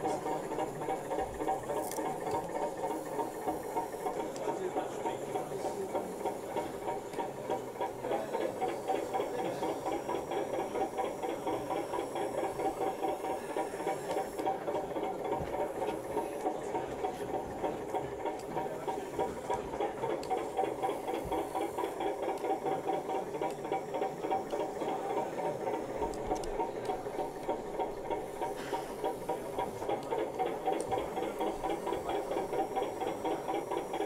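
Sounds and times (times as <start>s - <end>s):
small electric motors humming: 0.0s - 34.0s.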